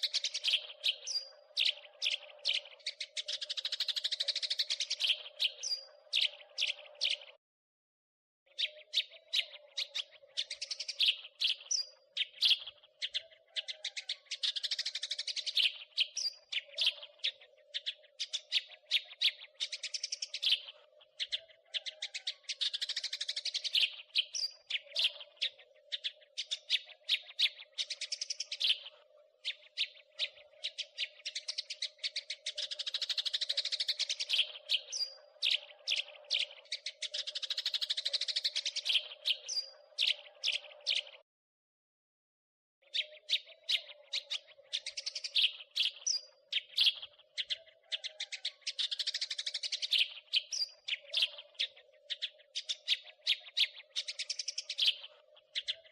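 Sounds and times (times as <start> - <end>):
sparrows chirping: 0.0 - 7.4, 8.5 - 41.2, 42.8 - 55.9.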